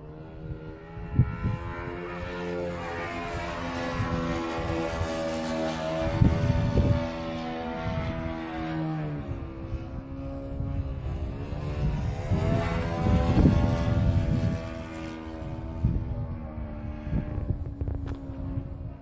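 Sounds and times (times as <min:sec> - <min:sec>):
model plane engine in flight: 0:00.0 - 0:19.0
wind buffeting microphone: 0:00.0 - 0:19.0.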